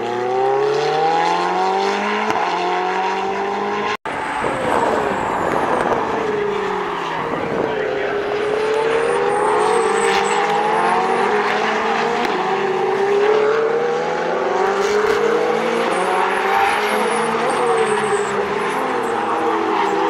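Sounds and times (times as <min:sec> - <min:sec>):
race car engines roaring: 0:00.0 - 0:20.0.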